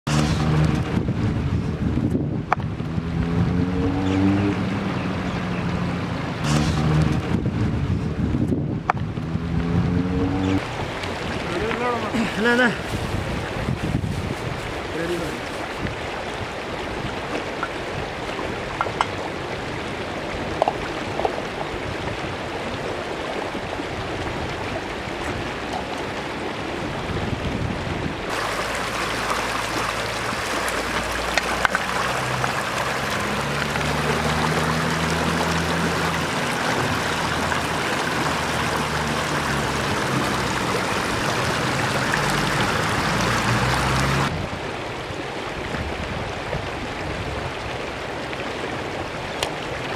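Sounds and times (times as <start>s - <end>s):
stream running over stones: 2.4s - 7.4s, 8.7s - 49.9s.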